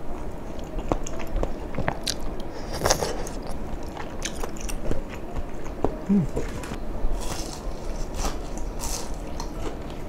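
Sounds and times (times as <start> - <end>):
person chewing food: 0.1 - 10.0.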